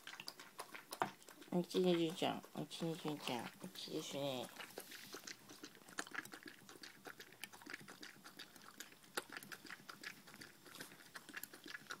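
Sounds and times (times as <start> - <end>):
dog lapping from plastic bowl: 0.0 - 12.0.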